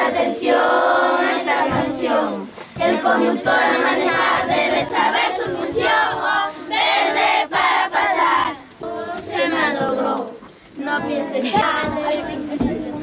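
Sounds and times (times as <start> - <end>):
children singing and shouting: 0.0 - 13.0.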